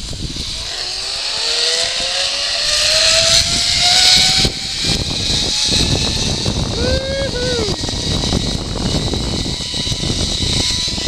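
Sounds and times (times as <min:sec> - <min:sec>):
hissing rush: 0:00.0 - 0:11.0
zipline trolley whine: 0:00.0 - 0:11.0.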